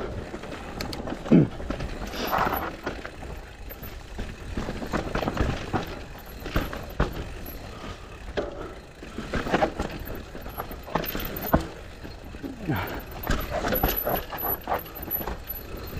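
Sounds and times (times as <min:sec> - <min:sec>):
bike knocking and rattling: 0:00.0 - 0:15.9
bike tyres on dirt trail: 0:00.0 - 0:15.9.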